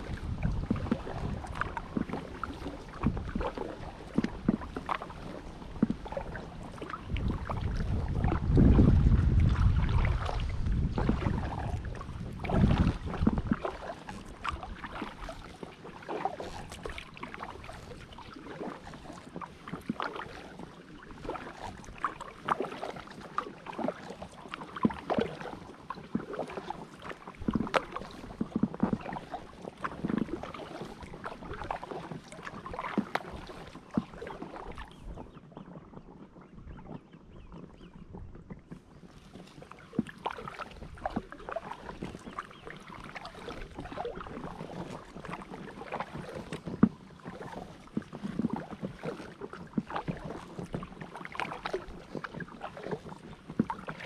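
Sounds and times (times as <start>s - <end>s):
paddle splashing water: 0.0s - 54.0s.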